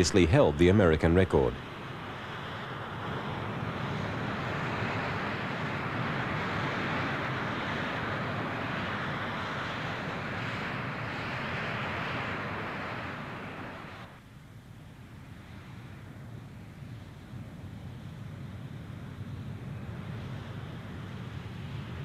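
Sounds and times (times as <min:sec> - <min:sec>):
jet engines roaring: 0:00.0 - 0:14.2, 0:15.4 - 0:22.0.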